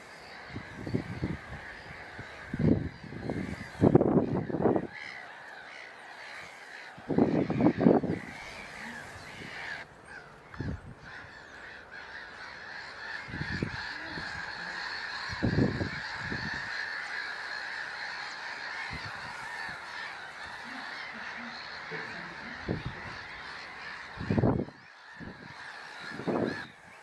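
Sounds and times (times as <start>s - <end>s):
short low bird calls: 0.0s - 27.0s
waterbirds calling in chorus: 0.0s - 27.0s.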